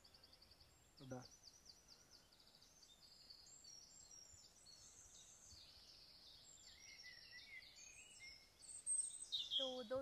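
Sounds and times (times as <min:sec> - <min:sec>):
faint bird chirping: 0:00.0 - 0:10.0.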